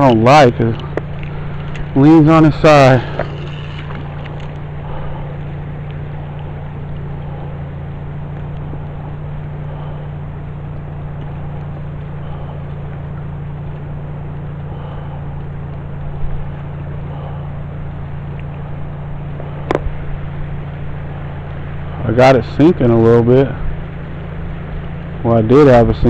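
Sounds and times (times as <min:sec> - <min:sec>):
continuous rushing hiss: 0:00.0 - 0:26.0
low mechanical hum: 0:00.0 - 0:26.0.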